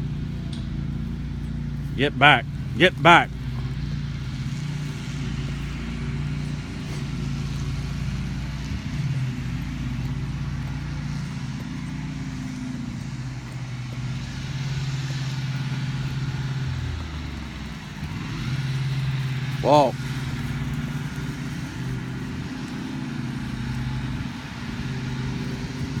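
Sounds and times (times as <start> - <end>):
lawn mower engines running: 0.0 - 26.0.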